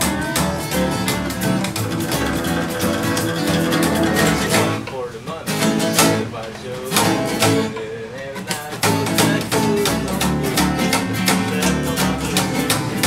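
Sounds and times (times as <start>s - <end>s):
man singing: 0.0s - 13.0s
plucked double bass: 0.0s - 13.0s
strummed acoustic guitars: 0.0s - 13.0s.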